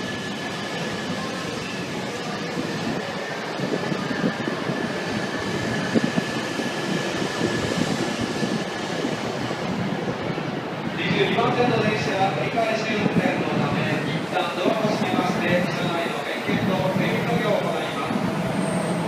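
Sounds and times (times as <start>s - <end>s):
thin train whine: 0.0s - 19.0s
train running noise: 0.0s - 19.0s.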